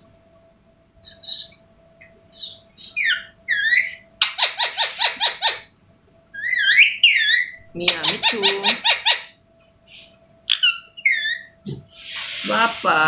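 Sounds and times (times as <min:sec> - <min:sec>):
faint steady hum: 0:00.0 - 0:13.0
parakeet chirping and whistling: 0:01.0 - 0:05.7, 0:06.3 - 0:12.9.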